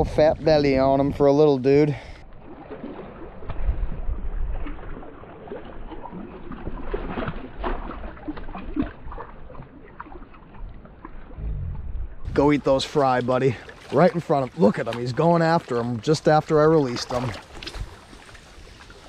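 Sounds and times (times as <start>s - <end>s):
shallow water splashing: 1.6s - 19.0s.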